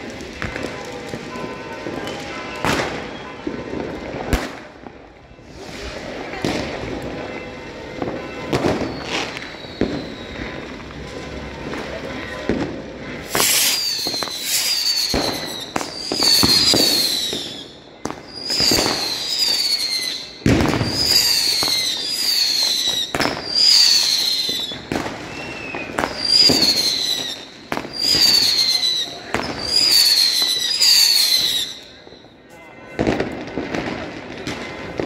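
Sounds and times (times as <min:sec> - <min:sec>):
whistling firework shots: 0:00.0 - 0:04.8, 0:05.4 - 0:35.0
firework bangs and crackles: 0:00.0 - 0:35.0.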